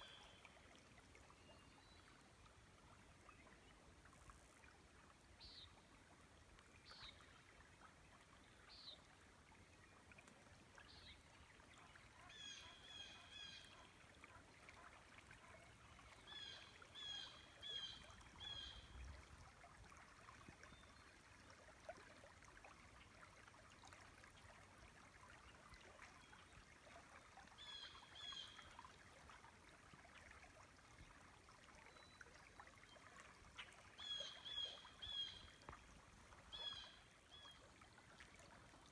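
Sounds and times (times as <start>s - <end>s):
faint river flow: 0.0s - 38.9s.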